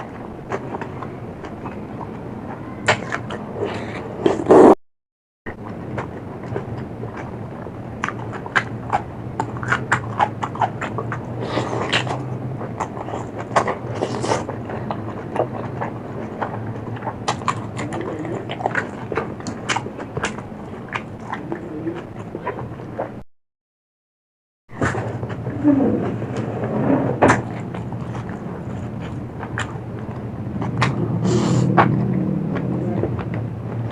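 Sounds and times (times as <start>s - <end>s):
chewing and crunching food: 0.0s - 4.5s, 5.5s - 23.2s, 24.7s - 33.9s.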